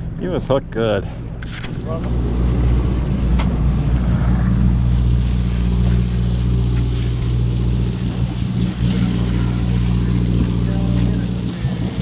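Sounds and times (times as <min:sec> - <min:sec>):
boat engine humming: 0:00.0 - 0:12.0
wind: 0:00.0 - 0:12.0
water noise: 0:02.0 - 0:12.0.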